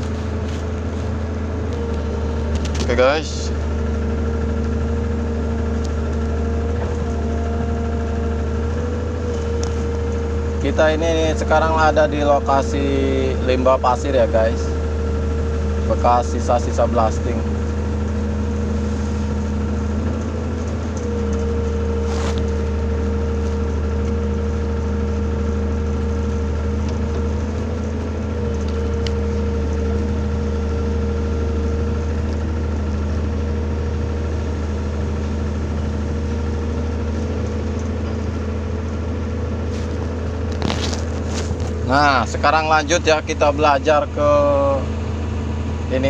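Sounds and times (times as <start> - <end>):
excavator diesel engine running: 0.0 - 46.0
hydraulic whine: 0.0 - 46.0.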